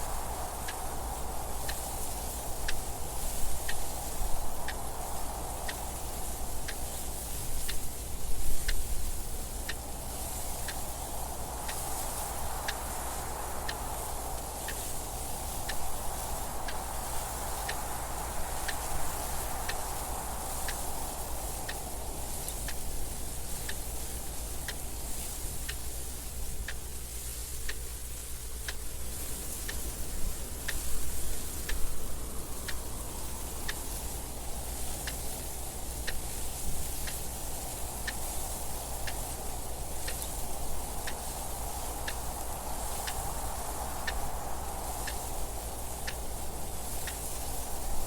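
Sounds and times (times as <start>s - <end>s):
wind noise: 0.0s - 48.0s
mechanical clock ticking: 0.5s - 4.9s, 5.5s - 48.0s.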